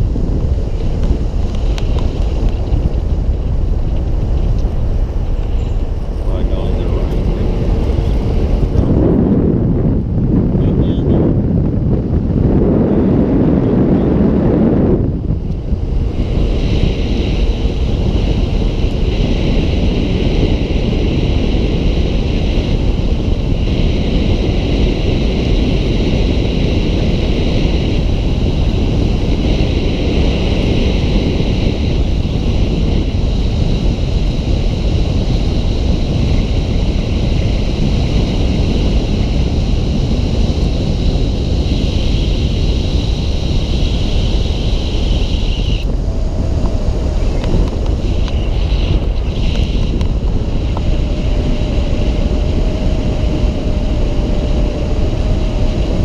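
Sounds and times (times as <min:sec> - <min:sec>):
vehicle road and wind noise: 0:00.0 - 0:56.0.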